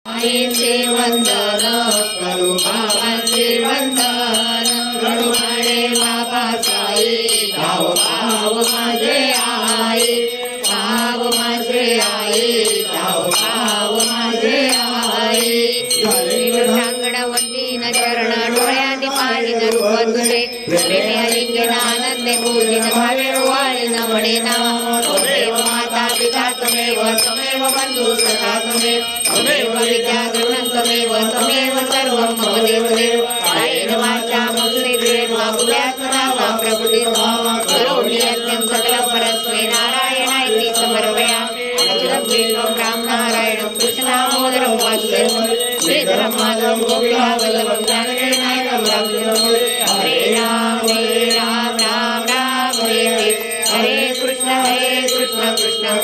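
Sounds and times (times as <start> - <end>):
devotional chant singing: 0.0 - 56.0
bells ringing: 0.1 - 56.0.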